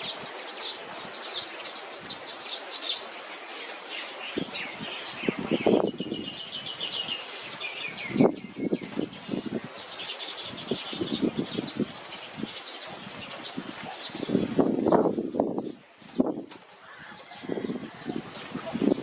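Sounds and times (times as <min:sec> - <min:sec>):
birds chattering: 0:00.0 - 0:19.0.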